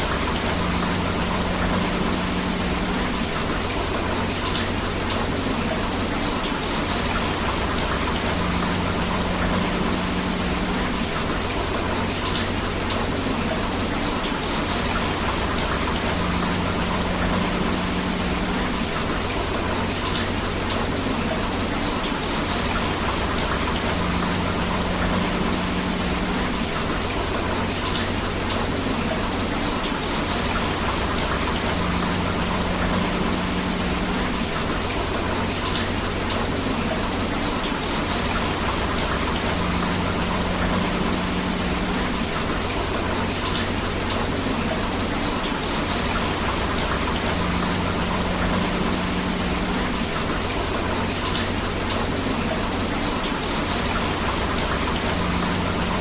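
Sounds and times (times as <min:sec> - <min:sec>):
flowing river water: 0:00.0 - 0:56.0
steady rain: 0:00.0 - 0:56.0.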